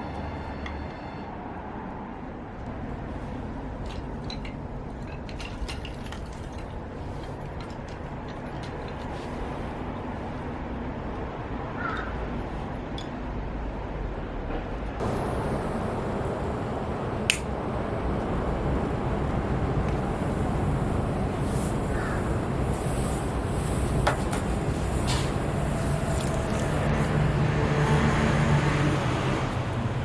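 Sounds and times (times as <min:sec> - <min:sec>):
low background rumble: 0:00.0 - 0:27.4.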